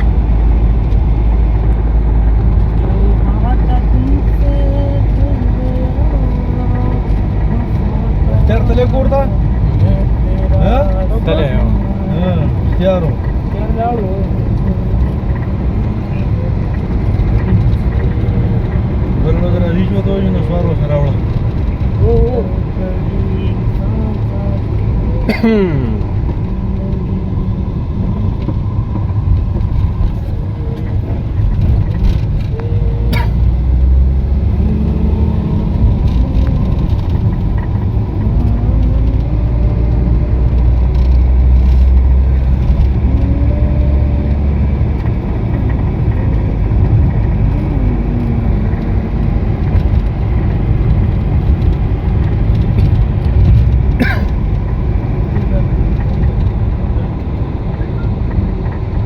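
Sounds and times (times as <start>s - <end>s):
car engine: 0.0s - 59.0s
road noise: 0.0s - 59.0s
wind noise: 0.0s - 59.0s.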